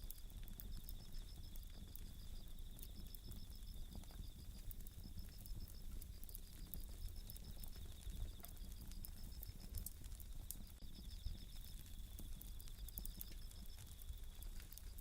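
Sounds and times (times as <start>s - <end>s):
campfire crackling and popping: 0.0s - 15.0s
crickets trilling: 0.0s - 15.0s.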